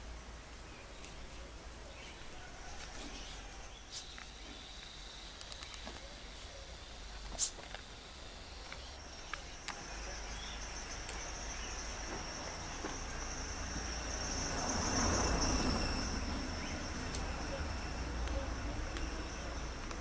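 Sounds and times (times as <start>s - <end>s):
insects trilling: 1.9s - 20.0s.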